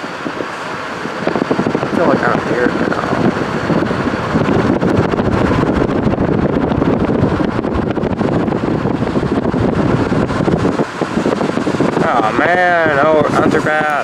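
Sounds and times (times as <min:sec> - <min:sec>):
car road rumble: 0:00.0 - 0:14.0
wind buffeting microphone: 0:00.0 - 0:14.0.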